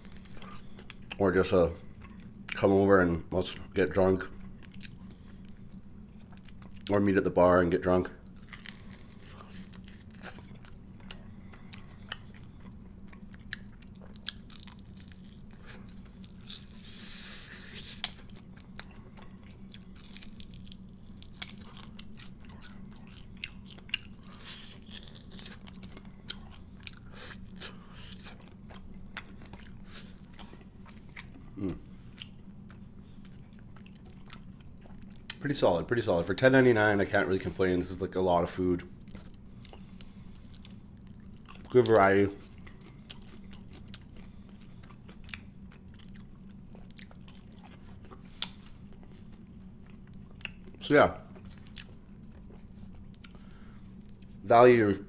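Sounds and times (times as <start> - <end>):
chewing fried chicken: 0.0 - 2.7, 3.4 - 54.5.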